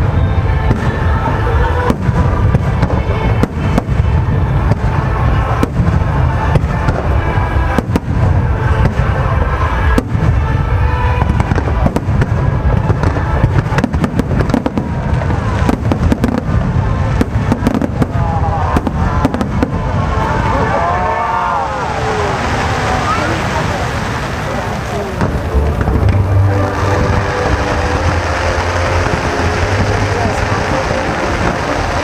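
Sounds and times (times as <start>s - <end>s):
fireworks bangs and crackling: 0.0s - 32.0s
fireworks booming: 0.0s - 32.0s.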